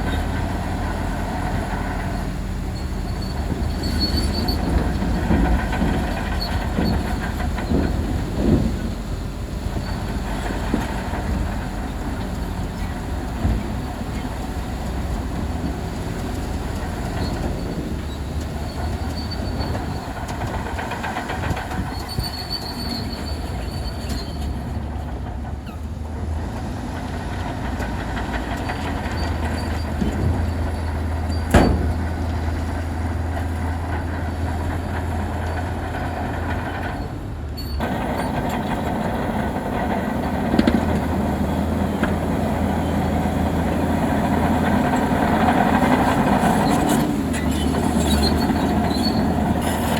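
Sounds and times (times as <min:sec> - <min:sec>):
diesel engine droning: 0:00.0 - 0:49.9
steel tracks squealing and clanking: 0:00.0 - 0:49.9.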